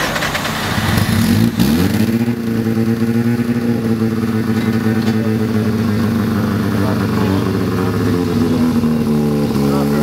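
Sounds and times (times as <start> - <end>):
rotary engine revving and idling: 0.0 - 10.0.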